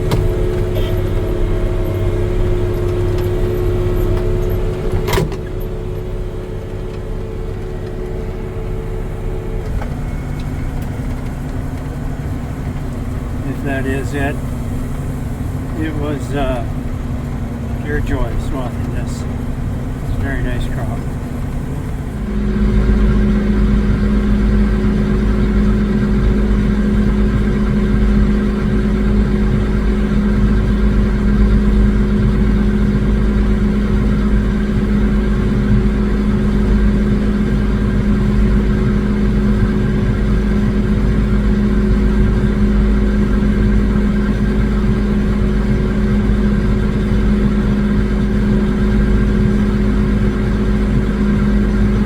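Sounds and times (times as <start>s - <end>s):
swather engine drone: 0.0s - 52.0s.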